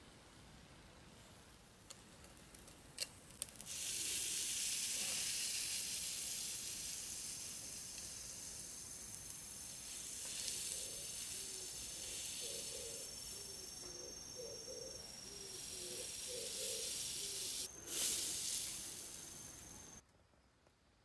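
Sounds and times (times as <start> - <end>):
butter sizzling: 1.7 - 20.0.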